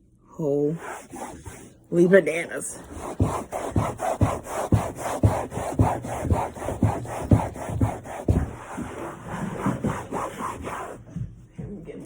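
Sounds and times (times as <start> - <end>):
cloth rubbing back and forth: 0.7 - 1.8, 2.7 - 11.4.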